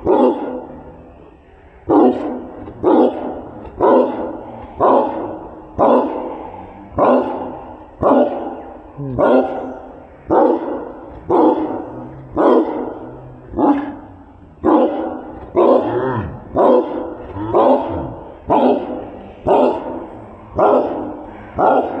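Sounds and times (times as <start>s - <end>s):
dog barking: 0.0s - 0.7s, 1.9s - 6.3s, 7.0s - 8.6s, 9.2s - 9.7s, 10.3s - 20.0s, 20.6s - 22.0s.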